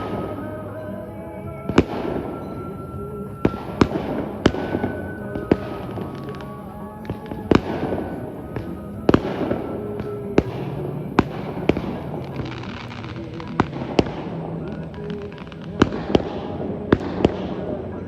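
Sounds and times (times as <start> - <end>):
faint music: 0.0 - 18.0.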